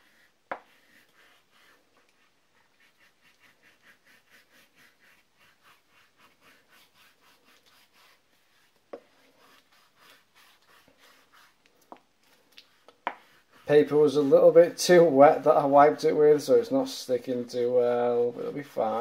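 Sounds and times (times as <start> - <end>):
faint rhythmic rubbing: 0.0 - 19.0.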